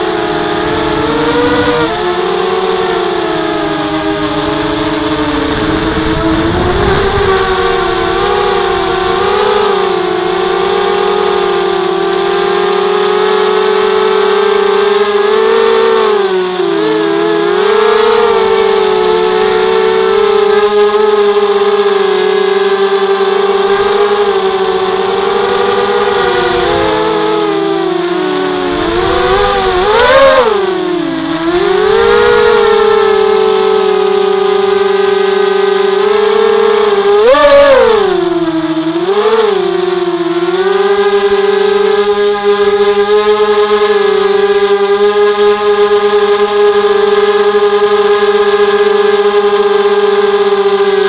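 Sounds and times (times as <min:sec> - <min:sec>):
drone motors whining: 0:00.0 - 0:51.0.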